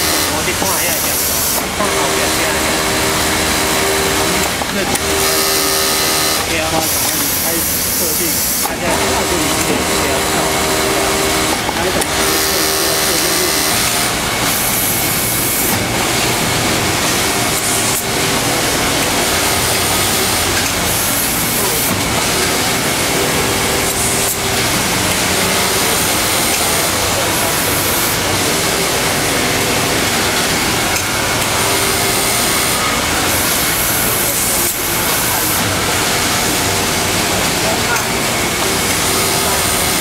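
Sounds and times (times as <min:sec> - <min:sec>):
sewing machines running: 0:00.0 - 0:40.0.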